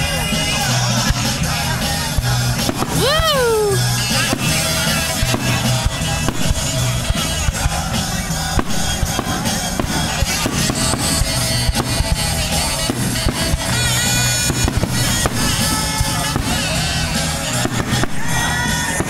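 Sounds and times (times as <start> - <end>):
fireworks bursting and crackling: 0.0 - 19.0
music with heavy drum beat: 0.0 - 19.0.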